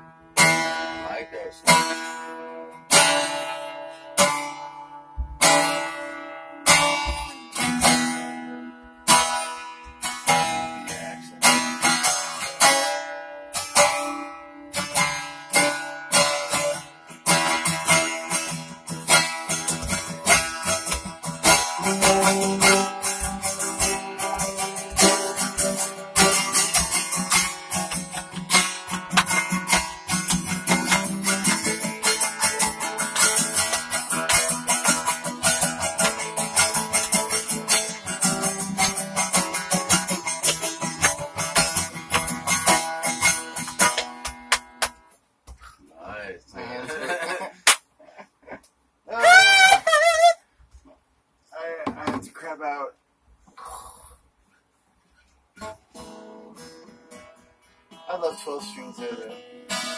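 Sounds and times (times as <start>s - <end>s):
acoustic guitar strumming: 0.0s - 45.2s, 55.2s - 59.9s.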